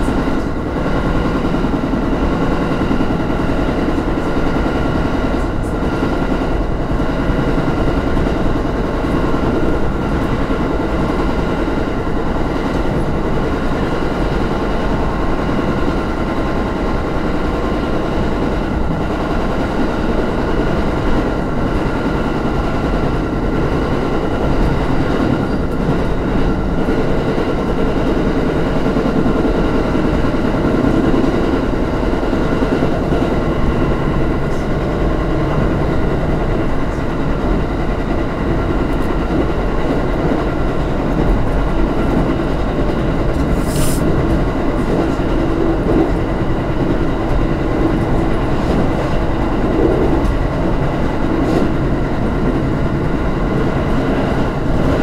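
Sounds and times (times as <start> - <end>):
electric train hum: 0.0 - 55.0
train wheels rumbling on rail: 0.0 - 55.0.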